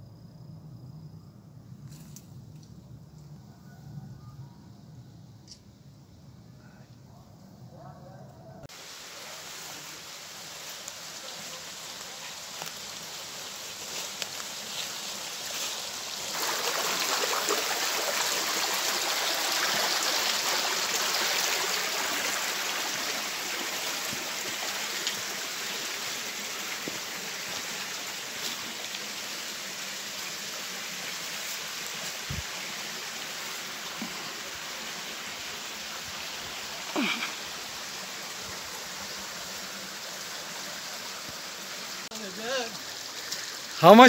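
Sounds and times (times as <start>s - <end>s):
stream trickling over rocks: 8.7s - 44.0s.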